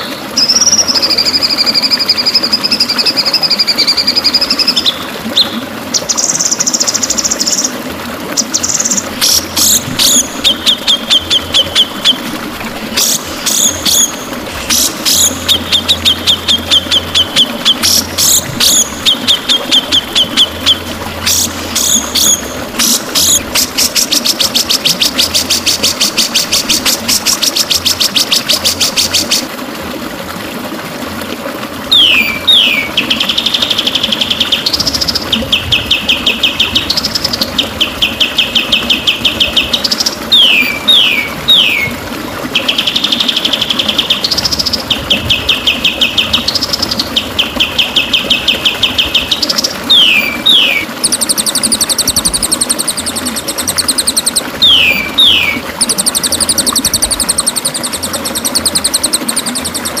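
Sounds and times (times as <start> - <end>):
bird song trills and whistles: 0.0 - 7.7, 8.4 - 12.3, 13.0 - 29.5, 31.9 - 42.0, 42.6 - 60.0.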